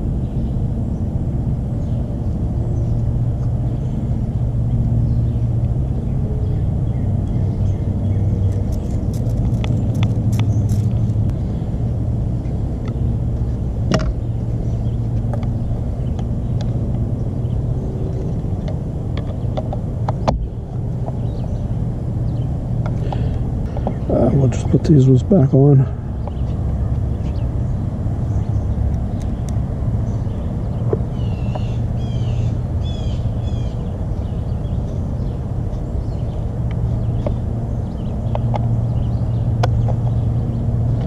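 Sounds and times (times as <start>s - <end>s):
low motor-like rumble: 0.0s - 41.0s.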